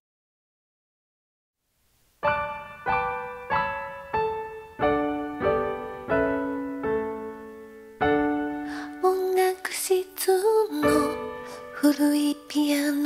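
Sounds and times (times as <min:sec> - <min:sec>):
slow piano chords: 0:02.2 - 0:13.0.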